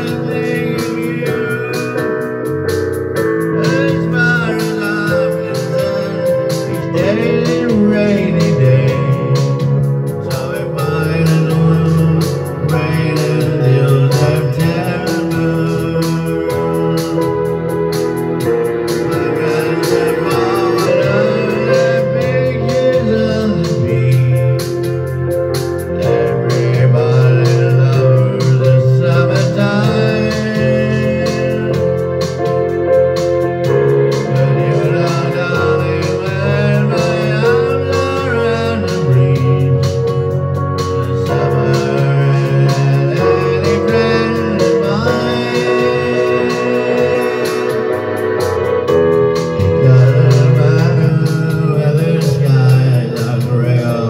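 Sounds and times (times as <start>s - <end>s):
electronic keyboard chords: 0.0s - 54.0s
man singing: 0.0s - 54.0s.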